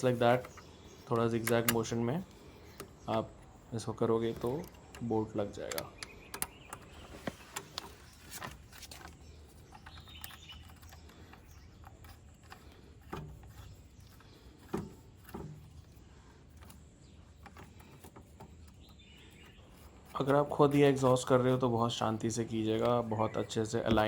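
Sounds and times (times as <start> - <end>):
metal parts clicking and tapping: 0.0 - 24.0.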